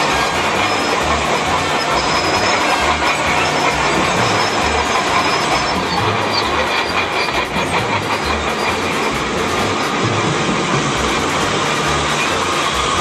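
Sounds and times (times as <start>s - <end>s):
combine harvester mechanical clatter: 0.0s - 13.0s.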